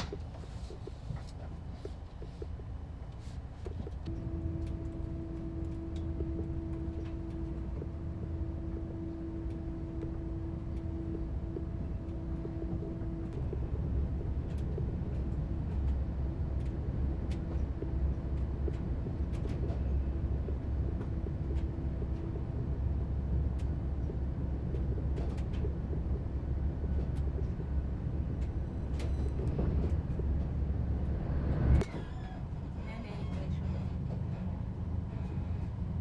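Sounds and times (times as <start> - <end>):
faint hum: 0.0 - 36.0
train rumbling: 0.0 - 36.0.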